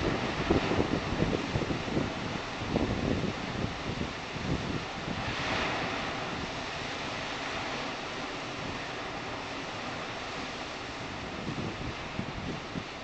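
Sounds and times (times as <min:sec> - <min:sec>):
storm waves breaking on shore: 0:00.0 - 0:13.0.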